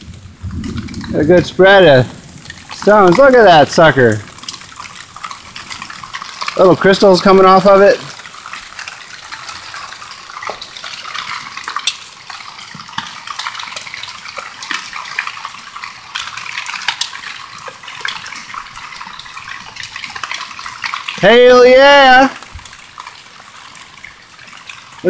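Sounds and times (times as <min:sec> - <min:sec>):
hailstones striking tarps: 0:00.0 - 0:25.0
heavy rain: 0:00.0 - 0:25.0.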